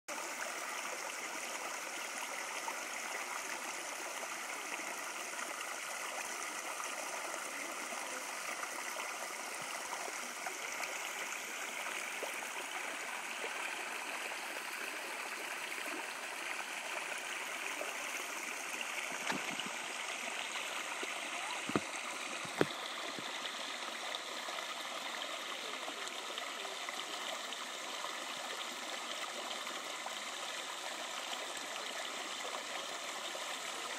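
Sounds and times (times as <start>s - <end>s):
creek running over stones: 0.1s - 33.9s.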